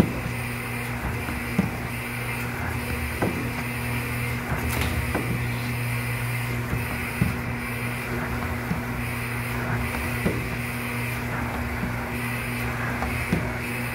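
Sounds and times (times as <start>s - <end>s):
machinery humming: 0.0s - 13.9s.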